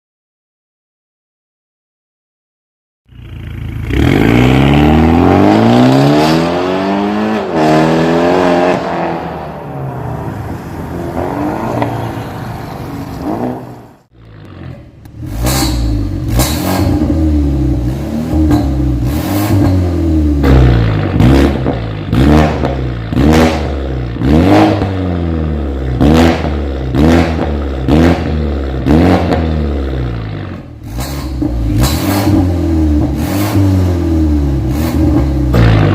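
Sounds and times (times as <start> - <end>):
car engine revving: 3.1 - 35.9.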